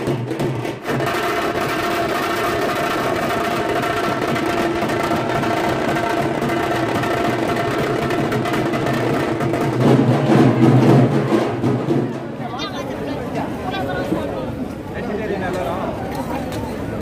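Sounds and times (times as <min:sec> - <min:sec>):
percussion: 0:00.0 - 0:17.0.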